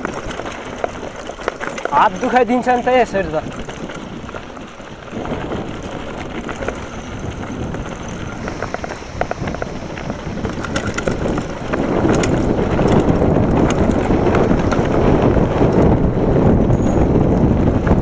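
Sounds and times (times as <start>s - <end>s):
tyres crunching on loose stones: 0.0s - 16.0s
bike rattling over bumps: 0.0s - 18.0s
wind on microphone: 0.0s - 18.0s.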